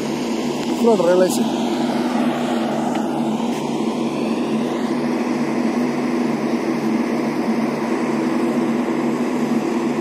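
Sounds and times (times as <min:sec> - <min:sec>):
pulsing low hum: 0:00.0 - 0:10.0
train running drone: 0:00.0 - 0:10.0.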